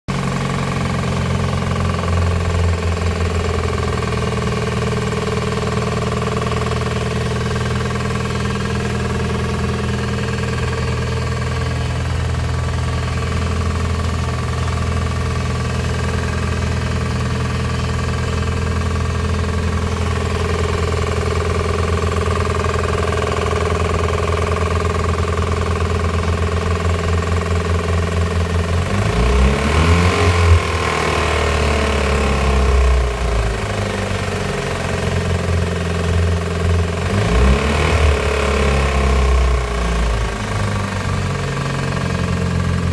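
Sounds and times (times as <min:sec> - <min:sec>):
car engine idling with knock: 0:00.1 - 0:42.9.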